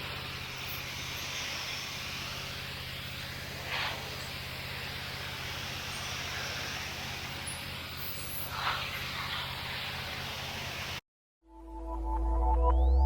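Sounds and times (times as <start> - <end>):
pressure washer engine hum: 0.0 - 11.0
water jet hissing on paving: 0.0 - 11.0.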